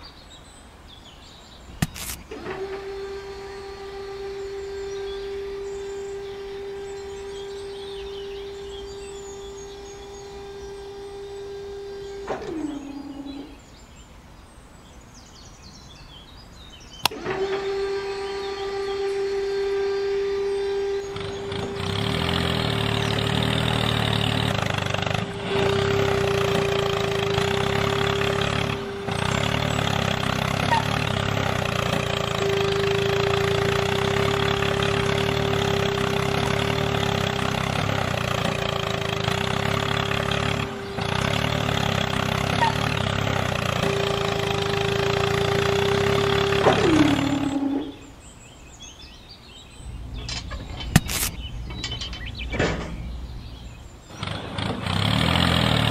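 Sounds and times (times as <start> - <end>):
electric motor whining: 1.7 - 13.6, 17.0 - 48.2, 49.8 - 55.9.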